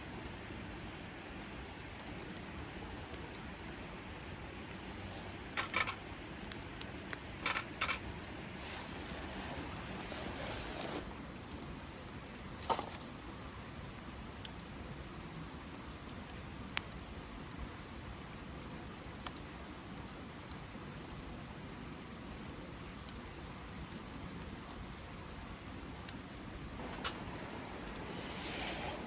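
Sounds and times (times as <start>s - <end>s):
campfire crackling and popping: 0.0s - 10.3s, 11.0s - 29.0s.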